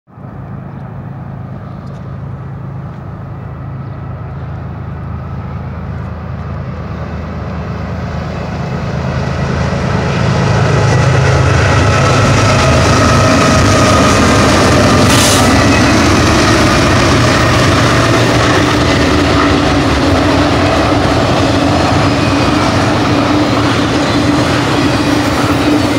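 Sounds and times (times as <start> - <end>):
diesel locomotives droning: 0.1 - 25.9
steel wheels rolling on rail: 0.2 - 25.9.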